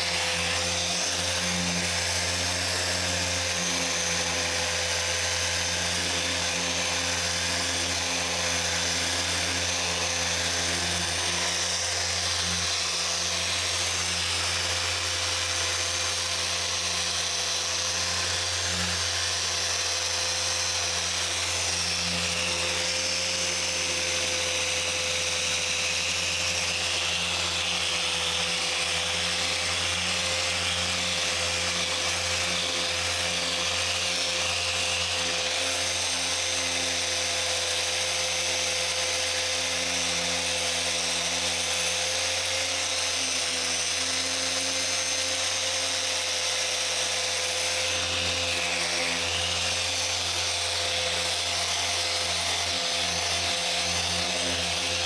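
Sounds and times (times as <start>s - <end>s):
electric polisher whining: 0.0s - 55.0s.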